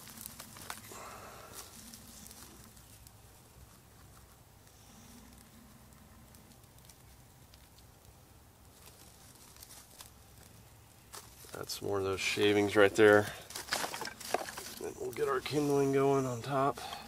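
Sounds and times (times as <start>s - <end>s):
faint crackling of tinder: 0.0s - 17.0s.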